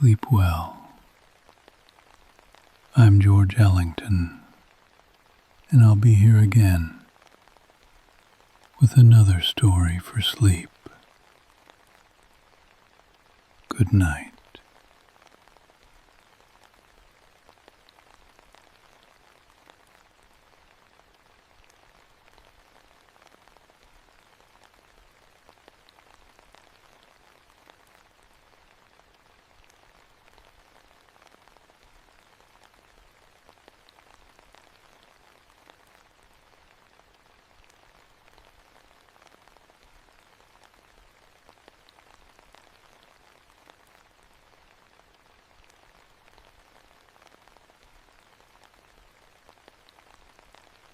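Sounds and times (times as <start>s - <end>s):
soft rain patter: 0.0s - 50.9s.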